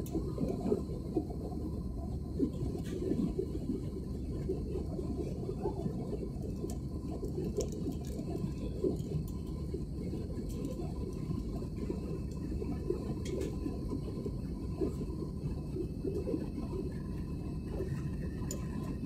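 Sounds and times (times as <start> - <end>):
faint steady hum: 0.0 - 19.0
jet engines rumbling in cabin: 0.0 - 19.0.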